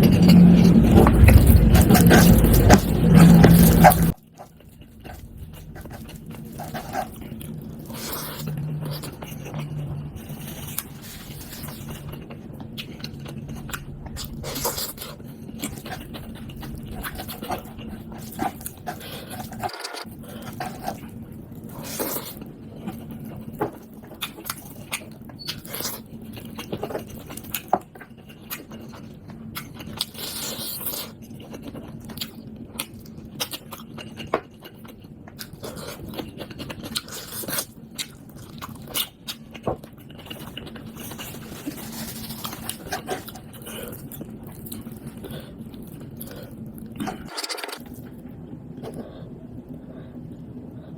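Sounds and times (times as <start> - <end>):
chewing and biting food: 0.0 - 48.2.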